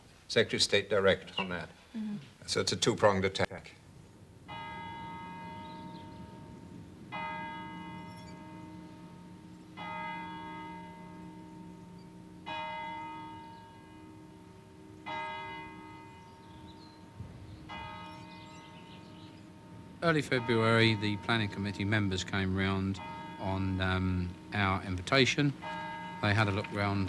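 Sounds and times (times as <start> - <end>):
low hum: 3.8 - 27.0
bell struck slowly: 4.5 - 27.0.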